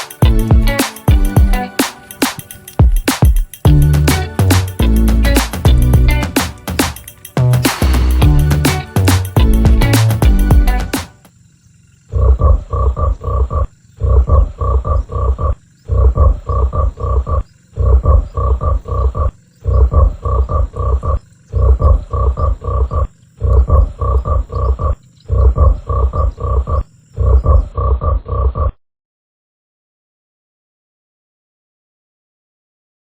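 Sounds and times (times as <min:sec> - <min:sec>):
loud croaking calls: 0:00.0 - 0:28.8.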